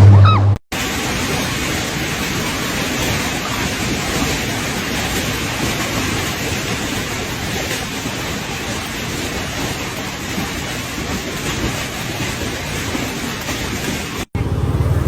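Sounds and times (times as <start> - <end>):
hail and rain pounding: 0.7 - 14.3.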